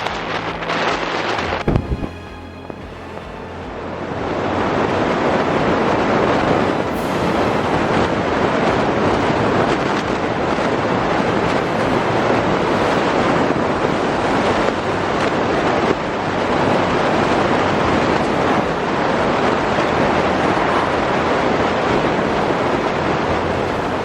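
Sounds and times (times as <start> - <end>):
low steady hum: 0.0 - 24.0
road and wind noise of vehicle: 0.0 - 24.0.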